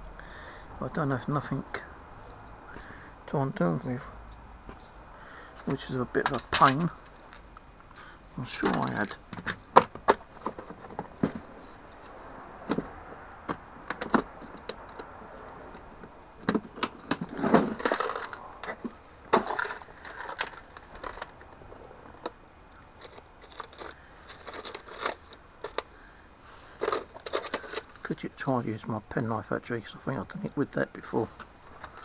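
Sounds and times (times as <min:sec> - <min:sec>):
parts scraping and rattling: 0:00.3 - 0:32.0
small metal and plastic parts clattering: 0:04.7 - 0:28.5, 0:29.3 - 0:32.0.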